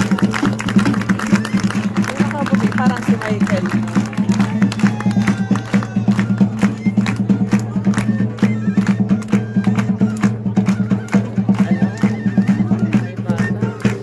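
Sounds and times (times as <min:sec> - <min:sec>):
fast percussion strokes: 0:00.0 - 0:14.0.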